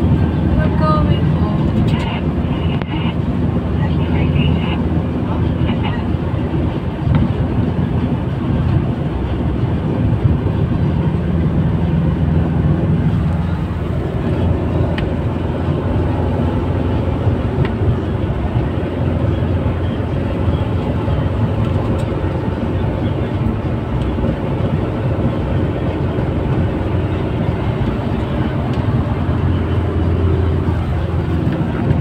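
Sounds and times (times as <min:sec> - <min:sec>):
vehicle rumble from inside cabin: 0:00.0 - 0:32.0.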